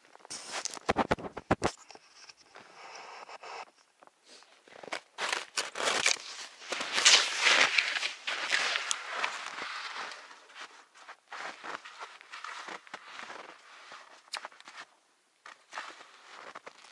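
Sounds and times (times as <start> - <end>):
skis crunching on frozen snow: 0.0 - 1.8, 4.3 - 16.9.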